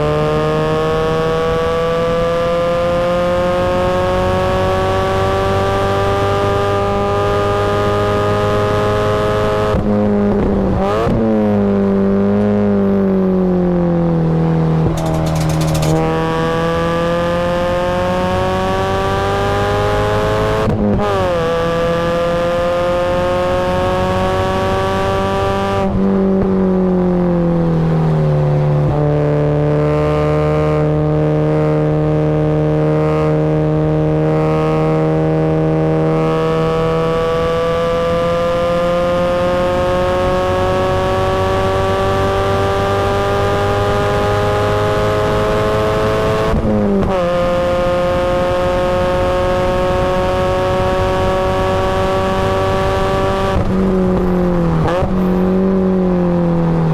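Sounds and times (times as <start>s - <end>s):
car engine revving through gears: 0.0s - 56.9s.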